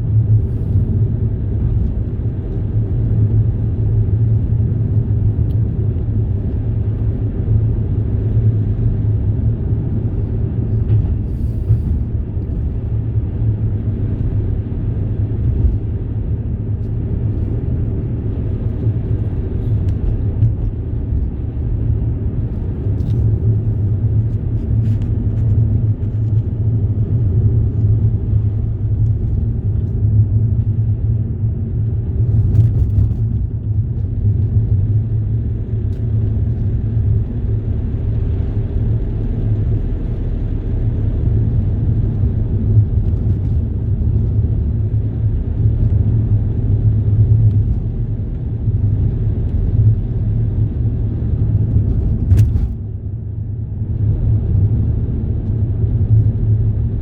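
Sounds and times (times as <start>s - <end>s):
moving vehicle rumble: 0.0s - 57.0s.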